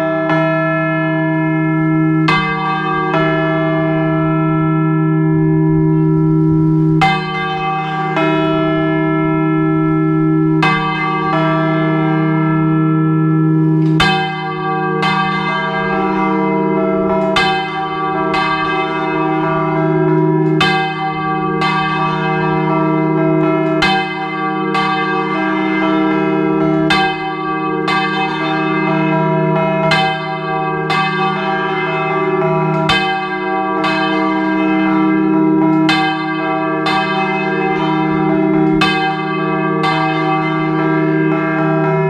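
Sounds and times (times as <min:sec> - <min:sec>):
church bell clapper strikes: 0:00.0 - 0:42.0.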